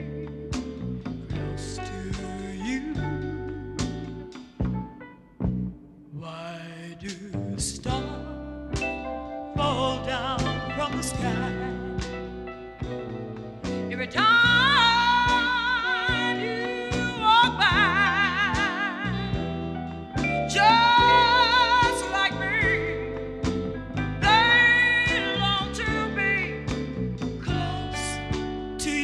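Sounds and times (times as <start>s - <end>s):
pop ballad singing: 0.0s - 4.5s, 6.1s - 29.0s
instrumental backing: 0.0s - 6.2s, 7.1s - 29.0s.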